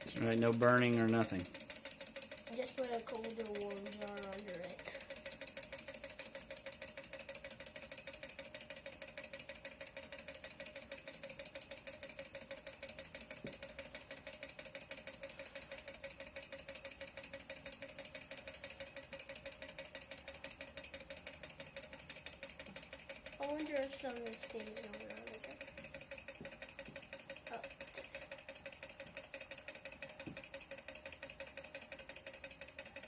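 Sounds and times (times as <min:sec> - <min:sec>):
small engine fast ticking: 0:00.0 - 0:33.0.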